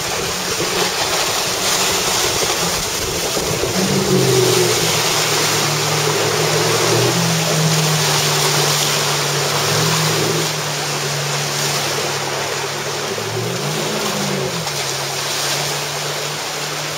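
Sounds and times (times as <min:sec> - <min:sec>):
outboard motor humming: 0:00.0 - 0:16.9
rushing waves and water: 0:00.0 - 0:16.9.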